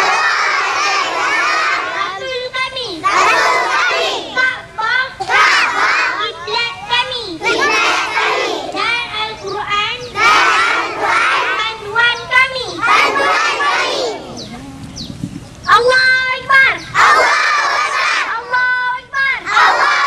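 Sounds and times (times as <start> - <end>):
young children shouting: 0.0 - 14.4, 15.8 - 20.0.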